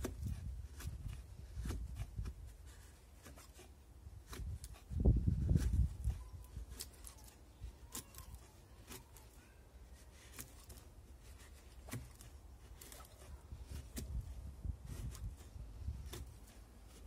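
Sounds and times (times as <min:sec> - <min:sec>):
knife scraping wood: 0:00.0 - 0:17.0.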